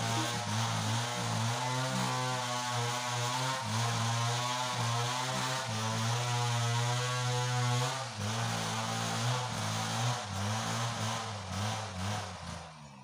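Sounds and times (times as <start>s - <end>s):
chainsaw idling: 0.0s - 12.8s.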